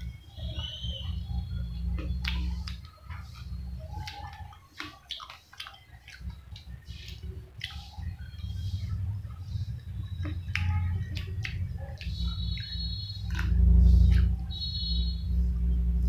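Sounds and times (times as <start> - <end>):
fingers picking food on paper plate: 0.0 - 15.0
chewing crisp food: 0.0 - 15.3.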